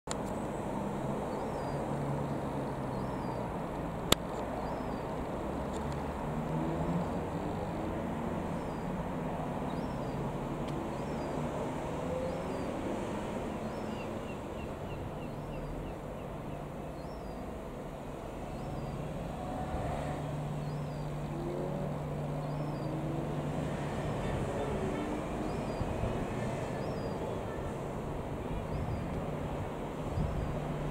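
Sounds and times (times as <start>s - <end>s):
distant engine drone: 0.1s - 30.9s.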